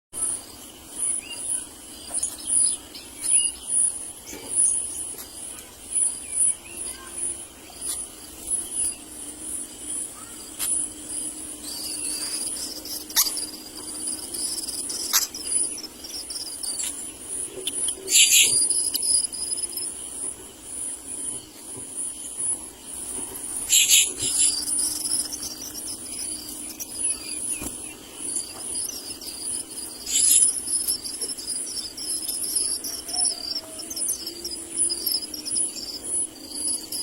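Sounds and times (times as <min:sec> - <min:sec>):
steady high insect trill: 0:00.2 - 0:37.0.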